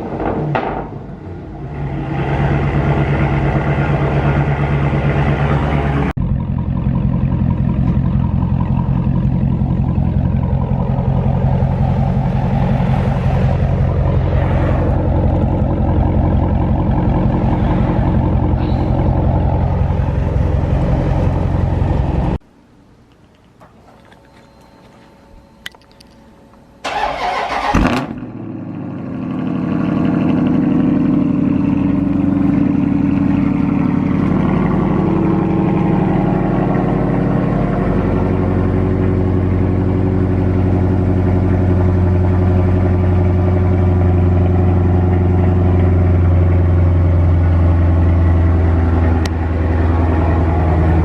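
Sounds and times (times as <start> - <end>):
car engine starting: 0.0 - 22.4, 26.8 - 51.0
loud engine idling: 0.0 - 22.4, 26.8 - 51.0.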